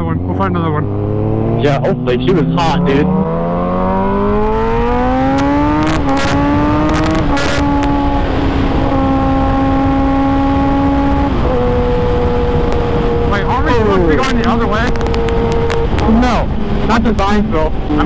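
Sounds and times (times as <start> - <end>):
motorcycle engine accelerating: 0.0 - 18.0
wind on microphone: 3.1 - 18.0.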